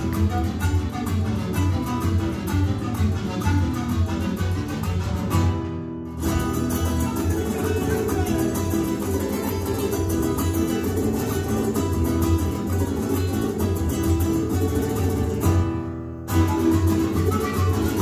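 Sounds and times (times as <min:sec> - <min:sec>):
strummed string instruments: 0:00.0 - 0:18.0.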